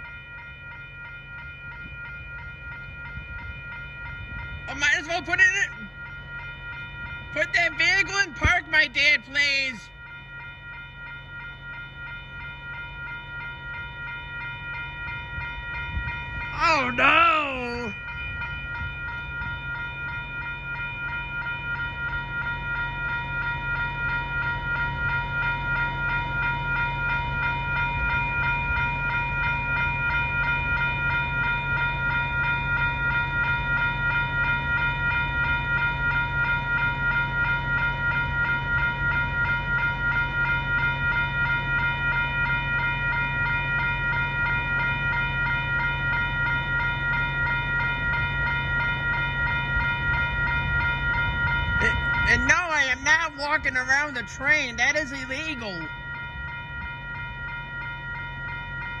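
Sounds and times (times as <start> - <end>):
crossing bell ringing: 0.0 - 59.0.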